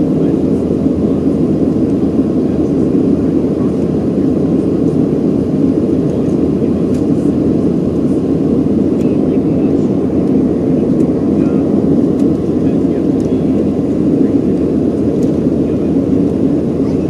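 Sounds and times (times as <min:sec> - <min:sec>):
airplane cabin engine noise: 0:00.0 - 0:17.0.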